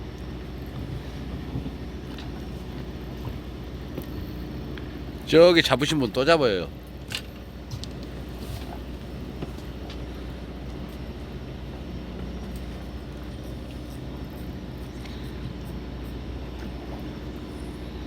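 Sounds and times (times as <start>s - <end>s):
boat machinery humming: 0.0s - 18.0s.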